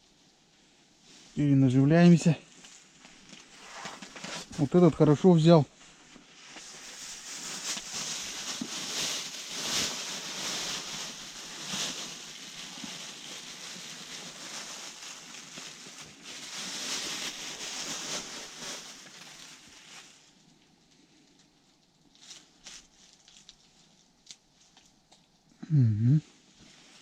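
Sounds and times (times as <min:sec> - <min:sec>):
clothing and gloves rustling: 0:02.2 - 0:25.2.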